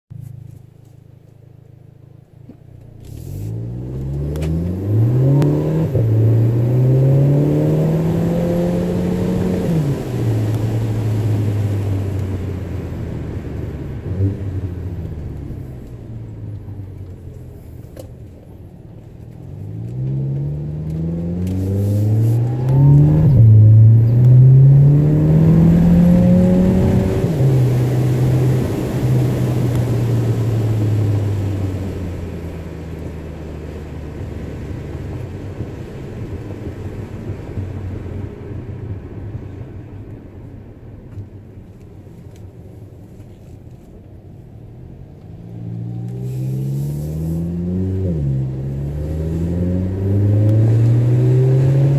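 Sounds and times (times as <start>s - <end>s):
car exhaust accelerating: 0.1s - 51.9s.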